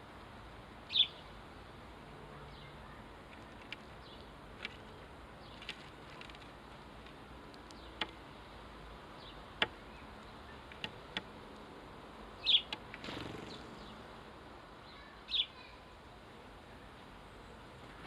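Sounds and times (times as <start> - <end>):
sparrows chirping: 0.8 - 1.5, 2.1 - 11.5, 12.2 - 18.0.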